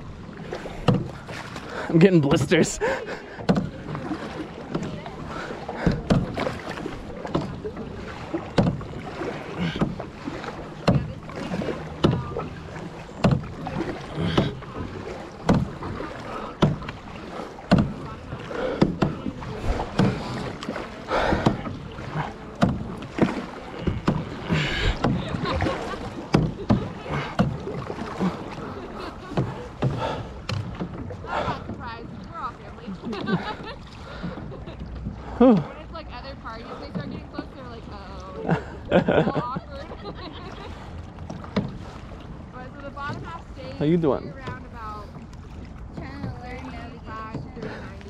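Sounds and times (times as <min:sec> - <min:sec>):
paddles splashing through water: 0:00.0 - 0:48.0.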